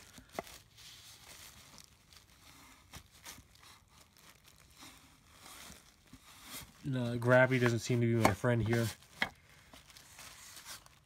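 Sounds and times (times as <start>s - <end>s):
towel rustling and rubbing: 0.0s - 11.0s.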